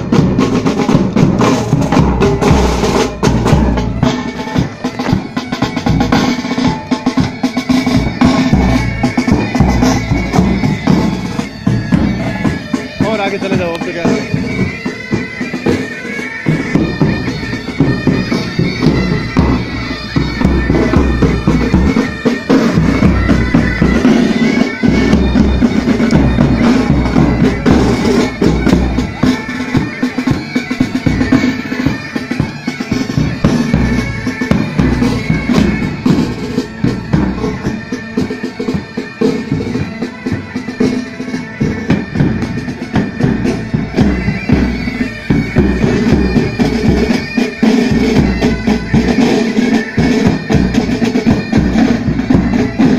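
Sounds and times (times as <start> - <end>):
bagpipes drone and melody: 0.0 - 52.9
marching drums beating: 0.0 - 52.9.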